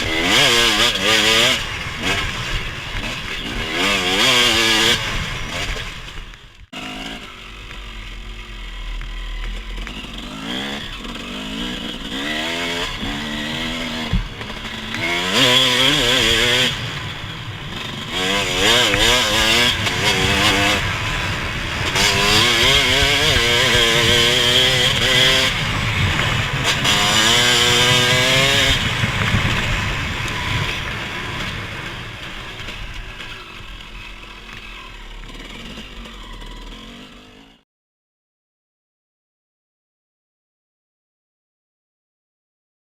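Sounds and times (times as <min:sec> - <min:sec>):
off-road vehicle engine revving: 0:00.0 - 0:06.1, 0:06.7 - 0:37.6.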